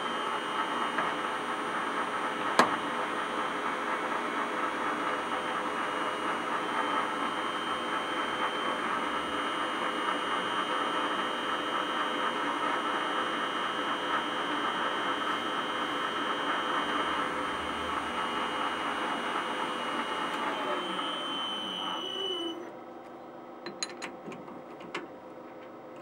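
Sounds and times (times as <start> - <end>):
metal lathe whirring: 0.0 - 22.8.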